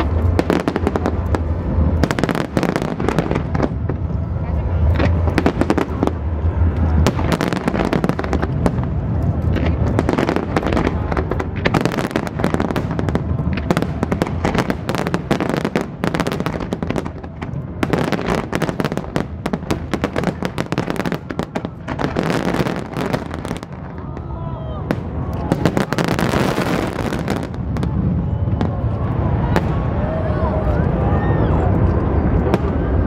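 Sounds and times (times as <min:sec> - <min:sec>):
fireworks bursting: 0:00.0 - 0:30.0.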